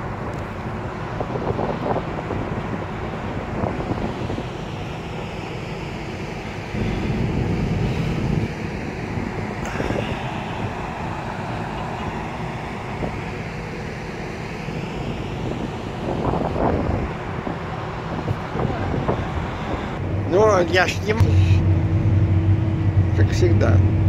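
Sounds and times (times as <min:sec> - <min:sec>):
wind blowing on microphone: 0:00.0 - 0:13.6, 0:14.9 - 0:24.0
distant road traffic: 0:00.0 - 0:24.0
steady low hum: 0:00.0 - 0:24.0.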